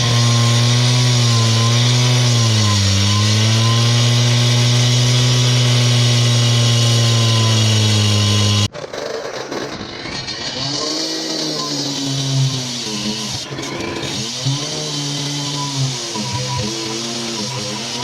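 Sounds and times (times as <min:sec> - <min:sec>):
cut-off saw running: 0:00.0 - 0:08.7, 0:09.7 - 0:18.0.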